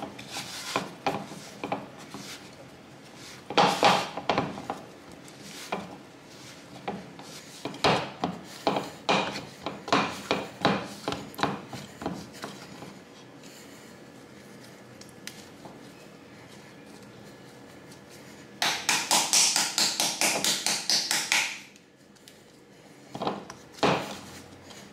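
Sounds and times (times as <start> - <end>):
hands kneading dough in a bowl: 0.0 - 24.9.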